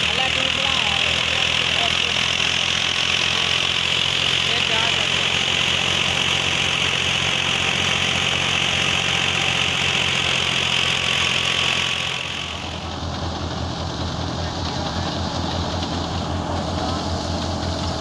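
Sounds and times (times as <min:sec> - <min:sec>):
diesel tractor engine chugging: 0:00.0 - 0:18.0
thresher whirring: 0:00.0 - 0:18.0.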